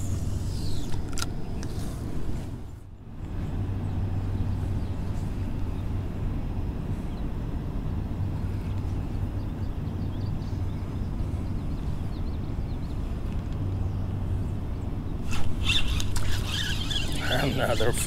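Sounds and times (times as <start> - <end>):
constant low hum: 0.0 - 18.0
low outdoor rumble: 0.0 - 18.0.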